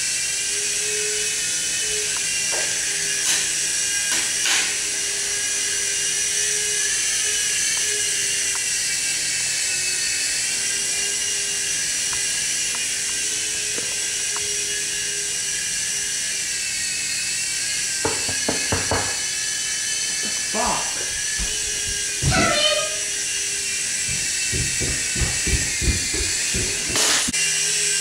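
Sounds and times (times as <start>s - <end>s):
rc helicopter motors whining: 0.0s - 28.0s.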